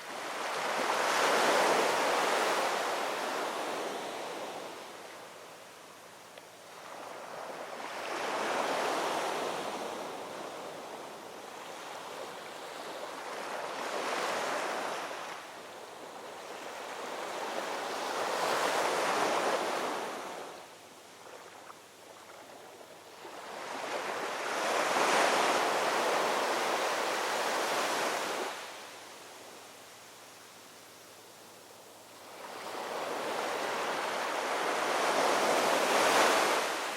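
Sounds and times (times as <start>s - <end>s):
ocean waves washing ashore: 0.0s - 5.4s, 6.6s - 36.9s.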